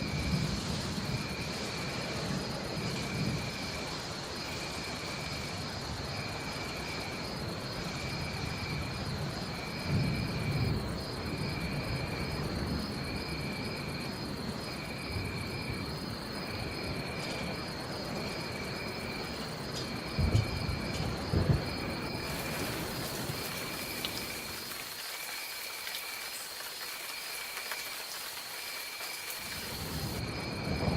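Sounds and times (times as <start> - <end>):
steady rain: 0.0 - 30.9.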